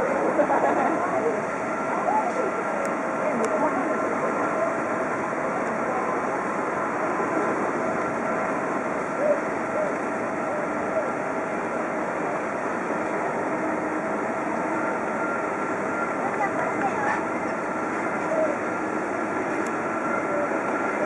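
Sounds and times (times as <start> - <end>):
jet engines running at low power: 0.0 - 21.0.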